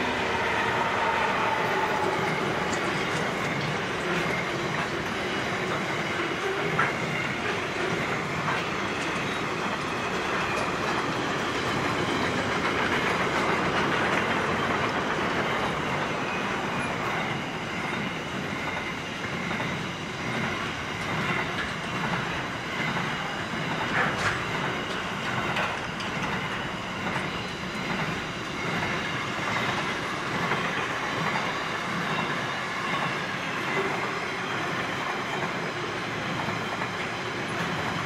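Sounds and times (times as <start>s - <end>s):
steel wheels rumbling on rail: 0.0s - 38.0s.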